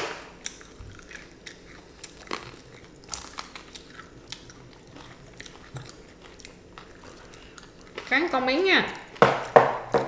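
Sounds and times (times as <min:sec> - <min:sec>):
crunching fried chicken: 0:00.0 - 0:09.2.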